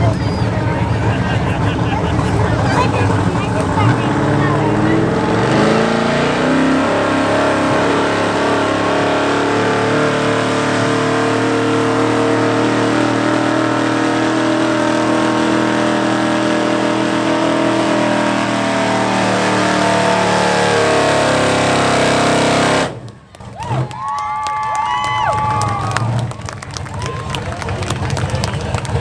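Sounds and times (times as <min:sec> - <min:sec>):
truck engine at high revs: 0:00.0 - 0:24.1, 0:25.1 - 0:29.0.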